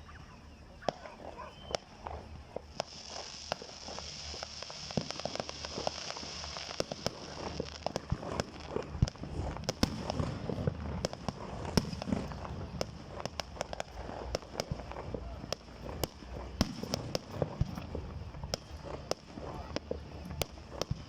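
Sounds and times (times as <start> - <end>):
fireworks bangs and crackling pops: 0.0 - 21.0.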